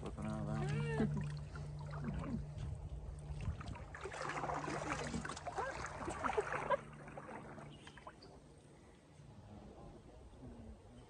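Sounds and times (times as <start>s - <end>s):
water splashing and trickling: 0.0s - 9.1s
low motor hum: 0.0s - 11.0s.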